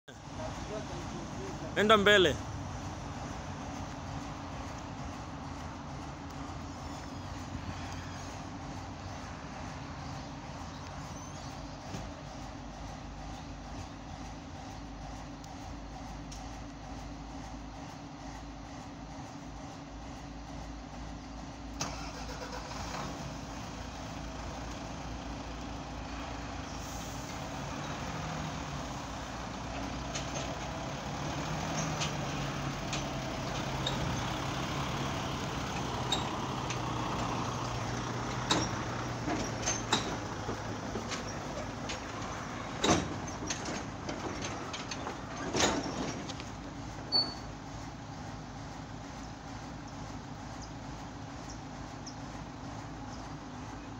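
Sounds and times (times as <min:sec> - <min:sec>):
crane diesel engine running: 0:00.1 - 0:53.9.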